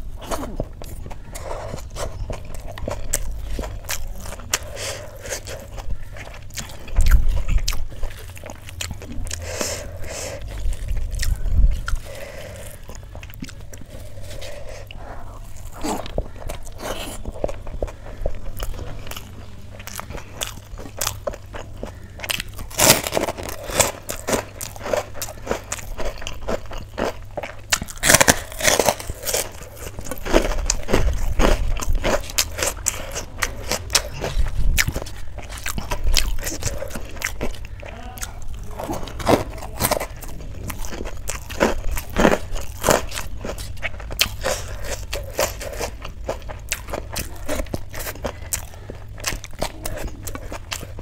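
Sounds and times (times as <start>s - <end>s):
chewing with wet mouth smacks: 0.0s - 51.0s.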